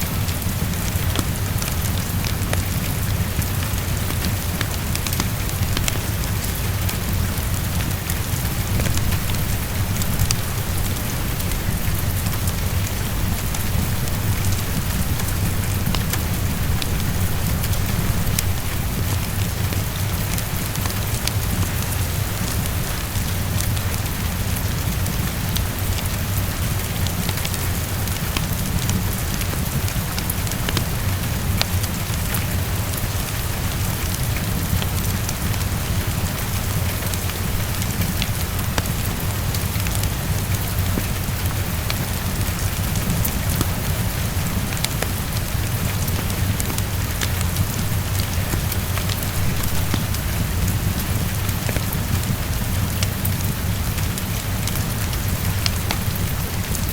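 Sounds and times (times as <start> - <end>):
fireplace fire crackling: 0.0 - 56.9
heavy rainfall: 0.0 - 56.9.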